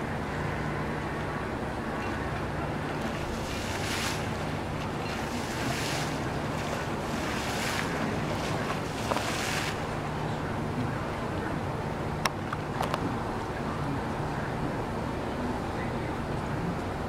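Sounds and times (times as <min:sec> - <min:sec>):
steady low hum: 0:00.0 - 0:17.0
wind buffeting microphone: 0:00.0 - 0:17.0.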